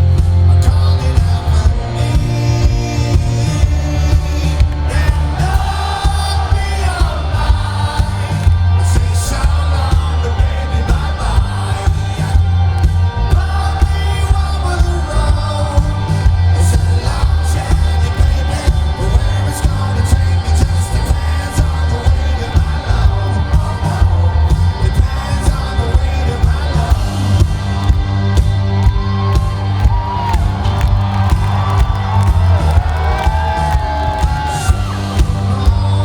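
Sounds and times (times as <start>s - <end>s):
person singing: 0.0s - 31.0s, 31.8s - 36.0s
bass: 0.0s - 36.0s
electric guitars: 0.0s - 36.0s
heavy drums: 0.0s - 36.0s.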